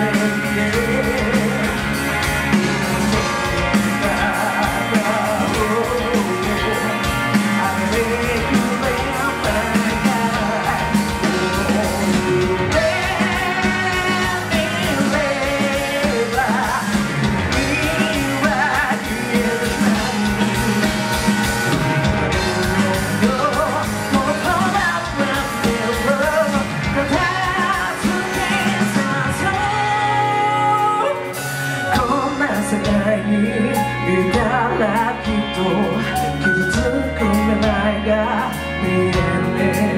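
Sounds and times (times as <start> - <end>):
steady drum beat: 0.0 - 33.3
bass guitar: 0.0 - 39.9
electric guitar: 0.0 - 39.9
lead singer singing: 0.0 - 39.9.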